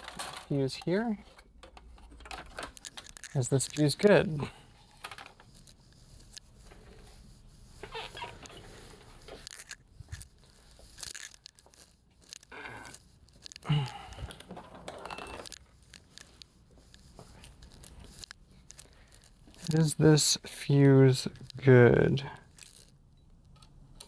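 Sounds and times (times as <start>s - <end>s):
handling scrapes and clicks: 0.0s - 24.0s.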